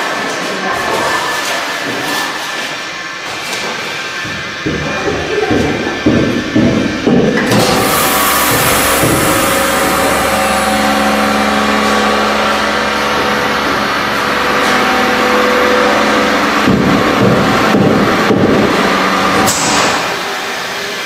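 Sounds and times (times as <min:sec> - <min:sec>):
vacuum pump running: 0:00.0 - 0:21.0
steady hum: 0:01.8 - 0:21.0.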